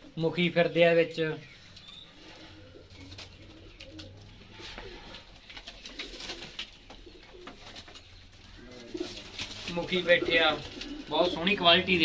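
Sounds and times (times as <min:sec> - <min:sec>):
pigeons cooing: 0:01.8 - 0:12.0.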